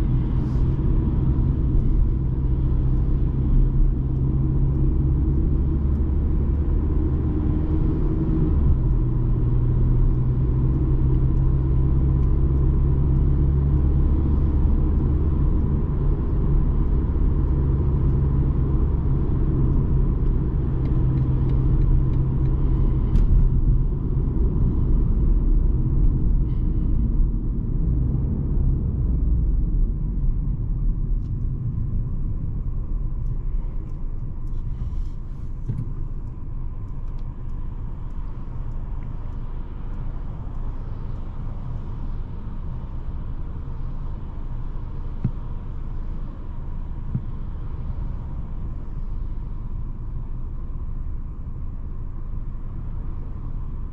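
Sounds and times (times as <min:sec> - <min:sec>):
car engine drone: 0:00.0 - 0:53.9
tyres rumbling on road: 0:00.0 - 0:53.9.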